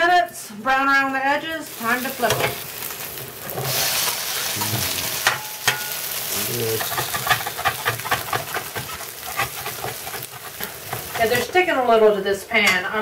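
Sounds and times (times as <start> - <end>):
patties sizzling in oil: 0.1 - 13.0
metal spatula scraping a pan: 1.8 - 13.0.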